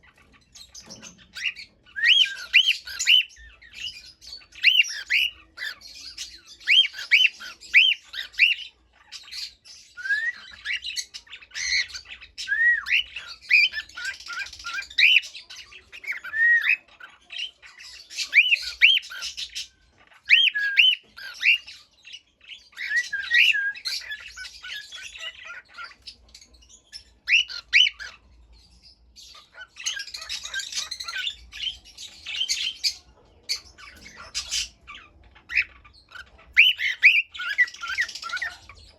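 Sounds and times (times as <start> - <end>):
scratchy squawks: 0.0 - 28.4, 29.2 - 38.9
cockatiels chirping: 0.0 - 38.9.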